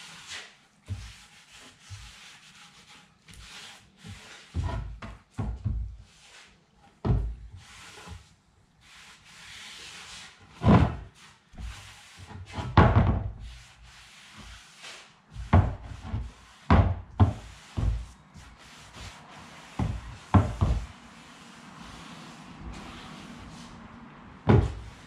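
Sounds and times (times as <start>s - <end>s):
rag rubbing on wood: 0.0s - 5.3s, 7.5s - 23.8s.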